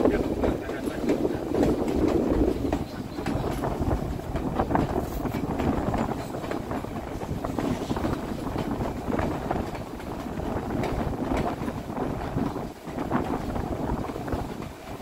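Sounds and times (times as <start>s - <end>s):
train cars rumbling on track: 0.0s - 15.0s.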